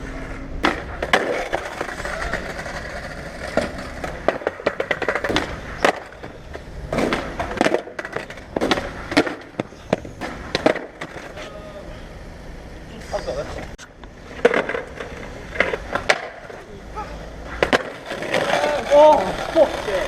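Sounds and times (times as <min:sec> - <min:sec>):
skateboard wheels rolling: 0:00.0 - 0:20.0
skateboard wooden clacks: 0:00.3 - 0:11.5, 0:14.0 - 0:16.6, 0:17.5 - 0:20.0.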